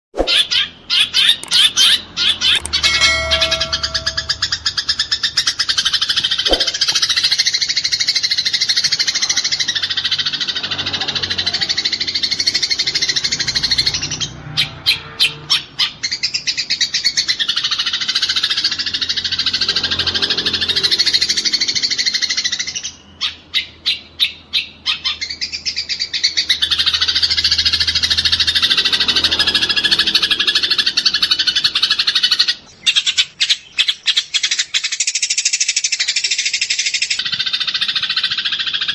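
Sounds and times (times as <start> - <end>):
sparrows chattering: 0.2 - 38.9.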